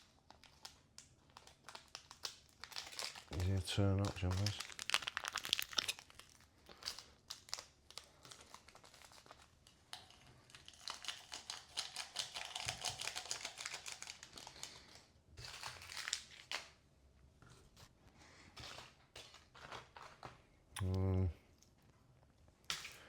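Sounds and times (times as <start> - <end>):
plastic and foil packets crinkling: 0.0 - 16.8, 18.6 - 20.4.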